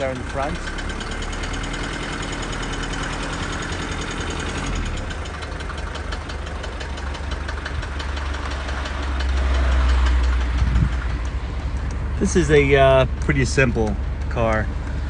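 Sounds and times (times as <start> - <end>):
diesel engine clatter: 0.0 - 15.0.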